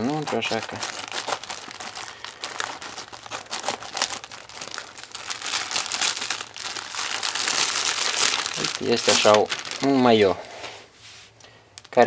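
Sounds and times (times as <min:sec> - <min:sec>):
plastic bag crinkling and tearing: 0:00.0 - 0:10.4, 0:11.7 - 0:12.0.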